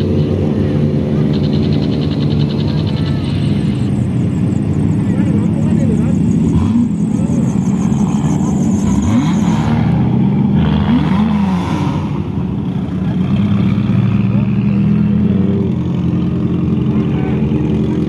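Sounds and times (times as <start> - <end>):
buggy engines running: 0.0 - 18.0.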